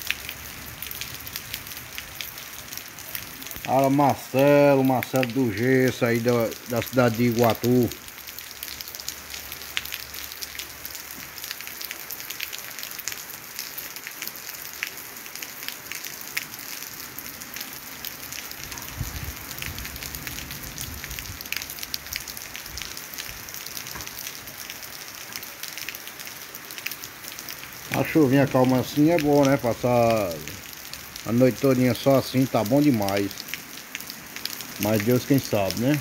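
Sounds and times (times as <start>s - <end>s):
light rain on street and leaves: 0.0s - 36.0s.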